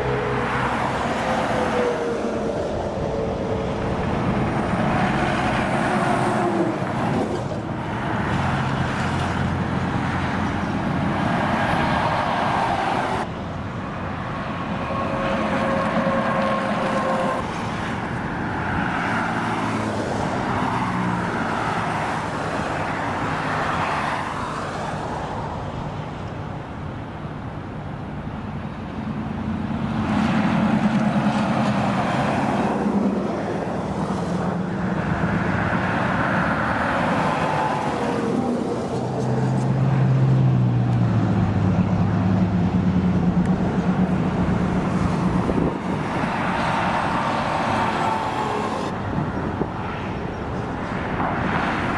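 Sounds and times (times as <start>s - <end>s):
heavy vehicle engine drone: 0.0s - 51.9s
vehicles passing on road: 0.0s - 51.9s.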